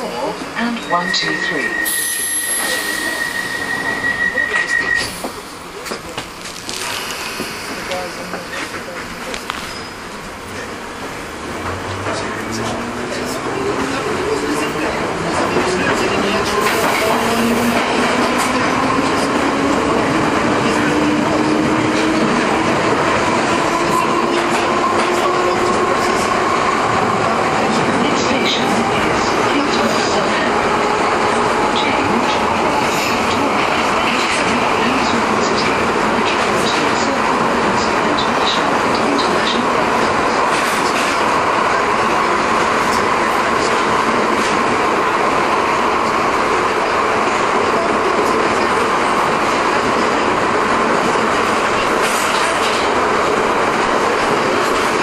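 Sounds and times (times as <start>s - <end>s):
train wheels rumbling on rails: 1.7s - 55.0s.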